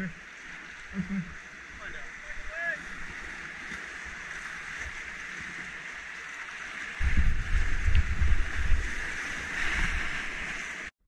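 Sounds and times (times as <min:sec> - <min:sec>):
rushing whitewater: 0:00.0 - 0:10.9.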